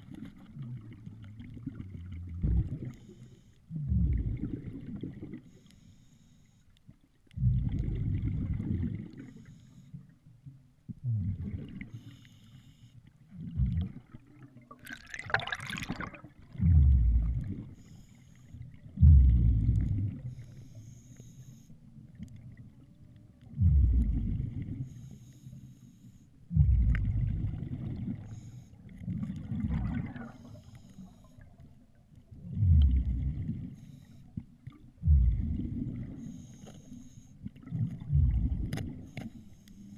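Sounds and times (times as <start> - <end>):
water sloshing and bubbling: 0.0 - 39.9.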